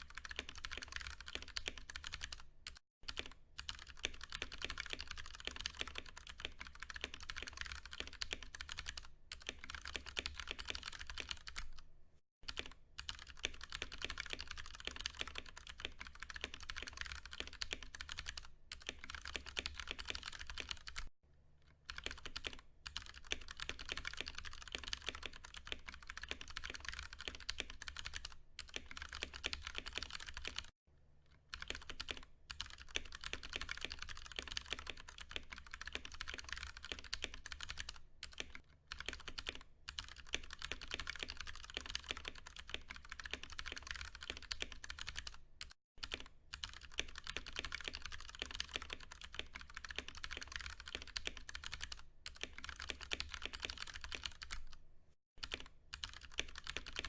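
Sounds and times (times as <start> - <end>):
mechanical keyboard typing: 0.0 - 11.8, 12.5 - 21.1, 21.9 - 30.7, 31.5 - 54.8, 55.4 - 57.0.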